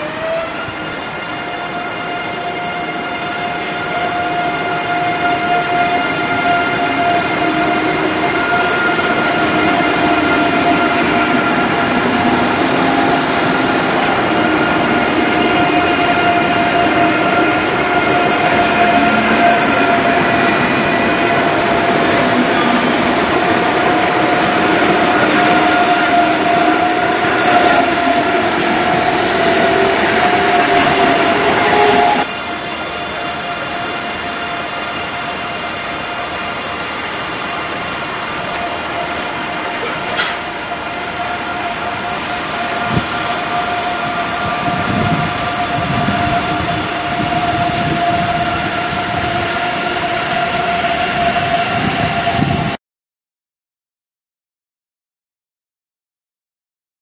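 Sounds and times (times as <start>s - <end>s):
train electric whine: 0.0s - 52.8s
train wheels rolling: 0.7s - 52.6s.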